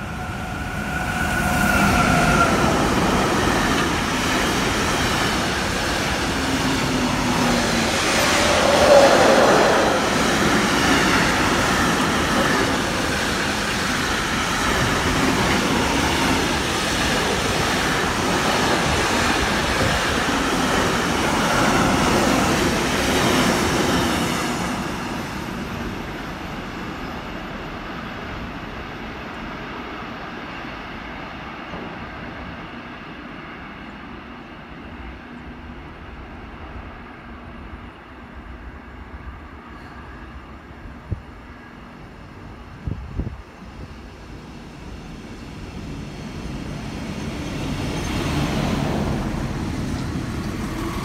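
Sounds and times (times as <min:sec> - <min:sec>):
freight train passing: 0:00.0 - 0:51.0.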